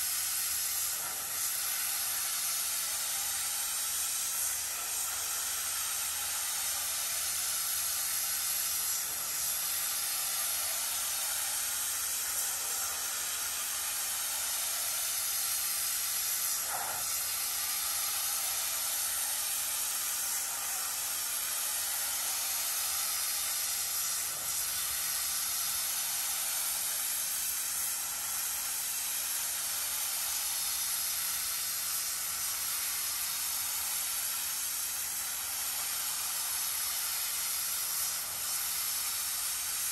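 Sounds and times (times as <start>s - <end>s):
pressure washer spraying mats: 0.0s - 39.9s.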